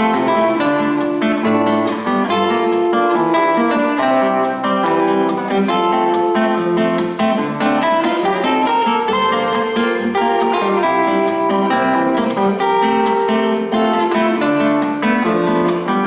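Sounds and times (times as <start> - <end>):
acoustic guitar plucked and strummed: 0.0 - 16.0.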